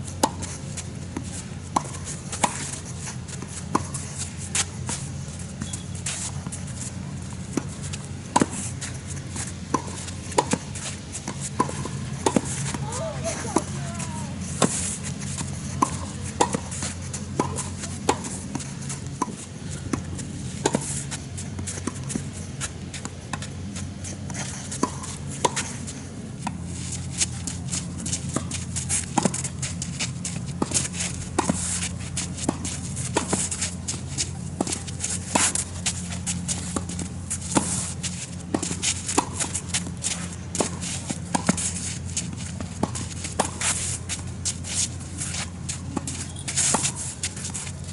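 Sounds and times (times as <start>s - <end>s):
shuffling footsteps on court: 0.0s - 47.9s
steady low hum: 0.0s - 47.9s
tennis ball bouncing on court: 0.2s - 2.8s, 4.6s - 47.7s
racket striking tennis ball: 0.2s - 47.9s.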